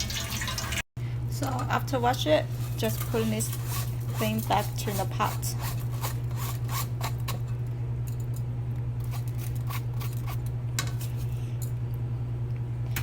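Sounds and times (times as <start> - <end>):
steady low hum: 1.0 - 13.0.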